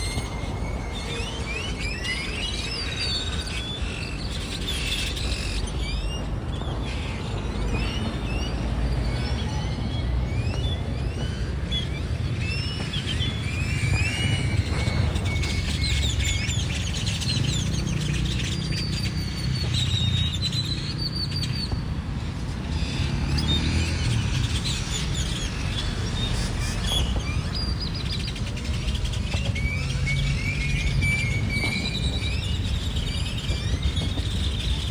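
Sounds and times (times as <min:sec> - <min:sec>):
grackles whistling and squeaking: 0:00.0 - 0:34.9.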